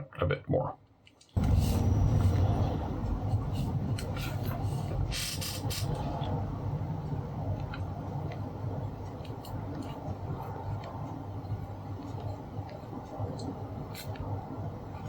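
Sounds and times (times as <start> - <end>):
steady low background hum: 0.9 - 15.0.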